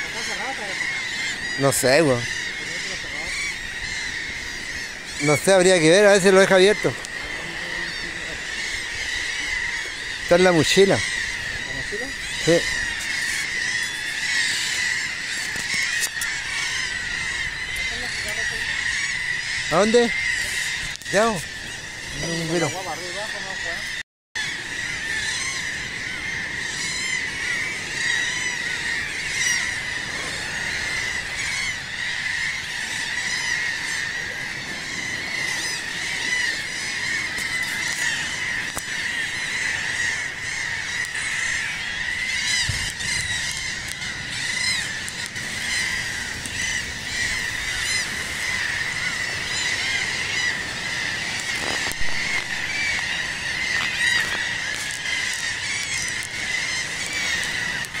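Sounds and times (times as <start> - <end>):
flock of seabirds calling: 0.0 - 58.0.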